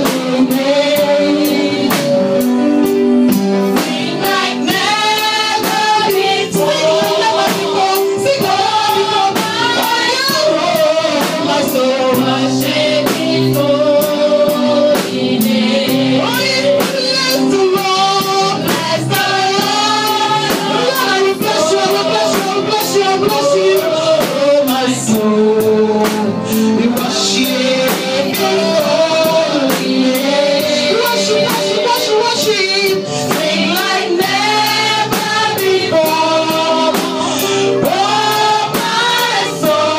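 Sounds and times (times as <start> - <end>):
drum kit beat: 0.0 - 39.9
voices singing gospel: 0.0 - 39.9.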